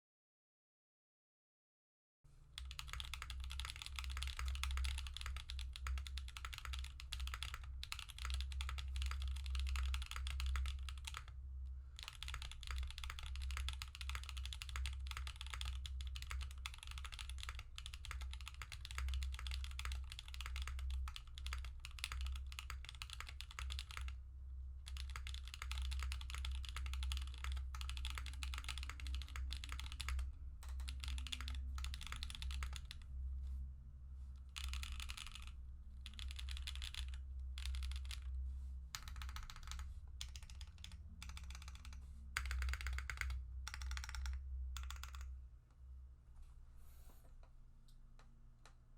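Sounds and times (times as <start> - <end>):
typing on mechanical keyboard: 2.6 - 11.3, 12.0 - 24.2, 24.8 - 33.0, 34.5 - 38.3, 38.9 - 45.3.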